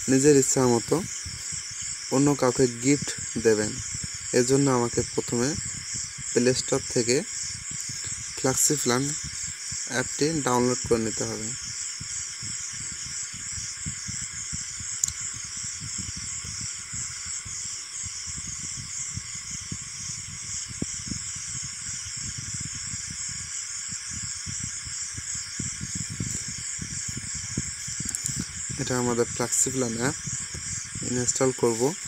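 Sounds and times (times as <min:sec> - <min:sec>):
high-pitched hiss: 0:00.0 - 0:32.0.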